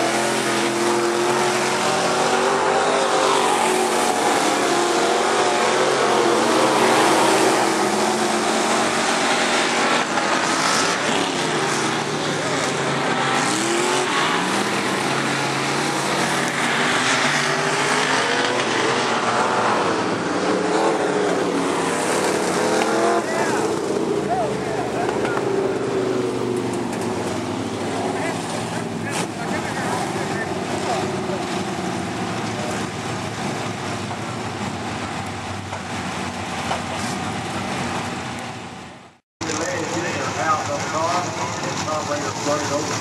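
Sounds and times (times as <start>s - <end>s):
race car engines passing: 0.0s - 43.0s.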